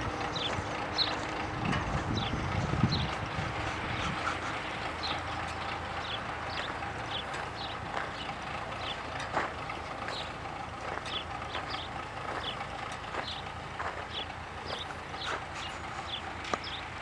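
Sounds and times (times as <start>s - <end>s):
clanks from seeder rig: 0.0s - 17.0s
tractor engine running: 0.0s - 17.0s.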